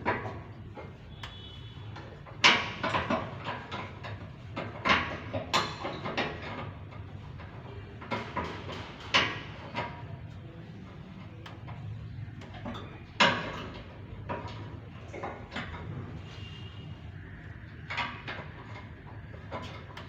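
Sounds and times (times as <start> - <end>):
knocks and clattering: 0.0 - 10.3, 11.0 - 16.3, 17.4 - 20.0.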